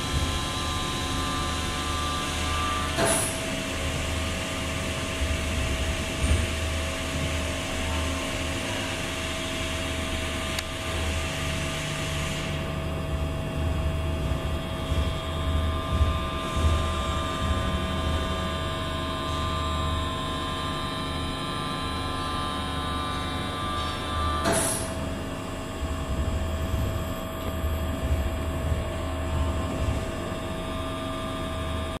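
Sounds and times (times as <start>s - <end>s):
electric motor and pump humming: 0.0s - 32.0s.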